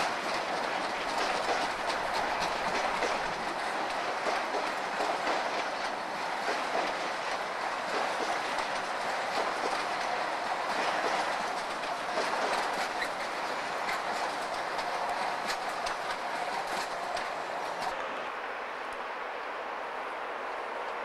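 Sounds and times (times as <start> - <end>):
freight wagons rolling past: 0.0 - 18.0
wheels clicking over rail joints: 0.0 - 18.0.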